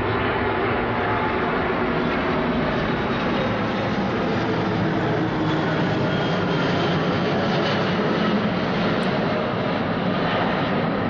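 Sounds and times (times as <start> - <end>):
jet airliner passing overhead: 0.0 - 11.0.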